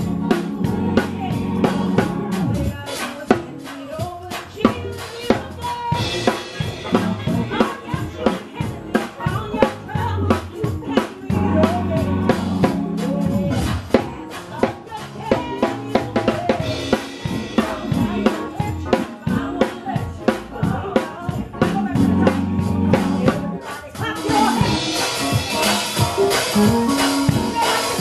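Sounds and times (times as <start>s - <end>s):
electric bass guitar: 0.0s - 3.6s, 4.5s - 28.0s
drum kit beat: 0.0s - 28.0s.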